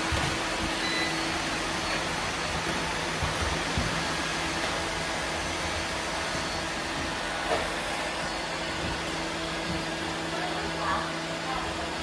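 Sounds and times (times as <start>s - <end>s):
robot vacuums whirring: 0.0s - 12.0s.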